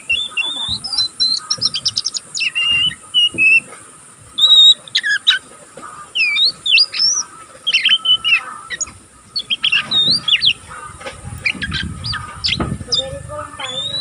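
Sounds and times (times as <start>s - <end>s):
young bird twittering: 0.0s - 14.0s.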